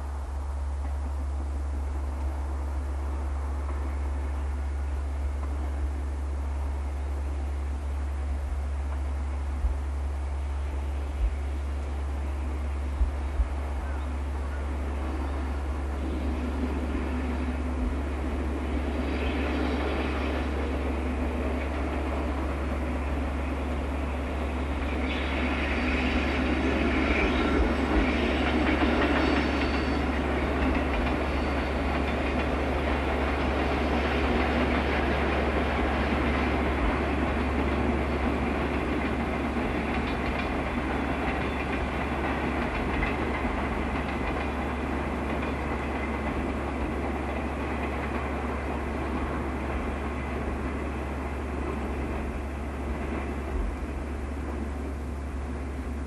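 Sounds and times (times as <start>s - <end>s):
distant train wheels rumbling: 0.0s - 56.0s.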